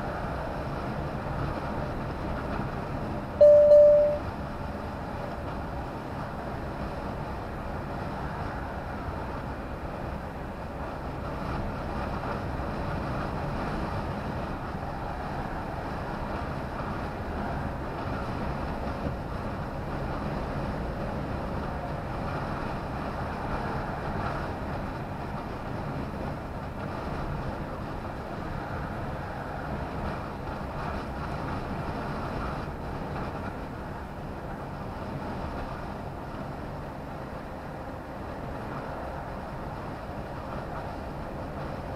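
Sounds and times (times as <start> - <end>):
vehicle engine rumble: 0.0 - 41.9.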